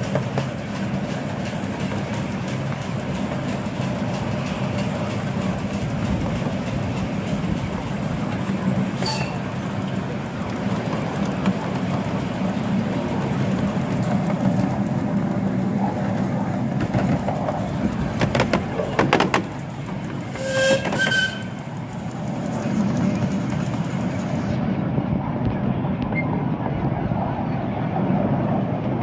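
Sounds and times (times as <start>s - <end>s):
wheels clicking over rail joints: 0.0s - 26.2s
railway carriage rumble: 0.0s - 29.0s.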